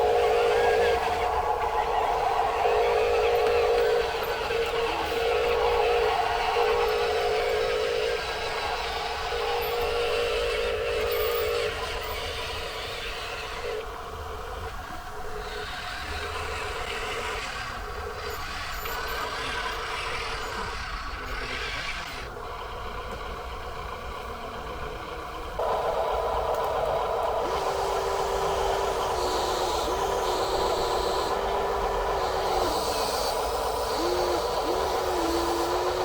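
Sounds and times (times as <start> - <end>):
model truck motor whine: 0.0 - 36.0.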